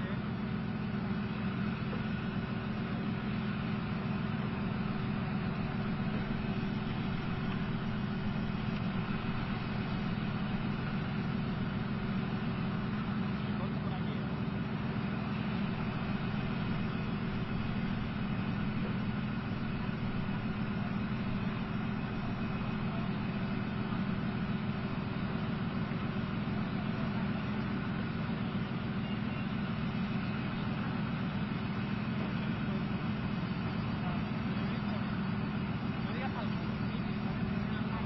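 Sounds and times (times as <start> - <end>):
diesel engines idling: 0.0 - 38.0.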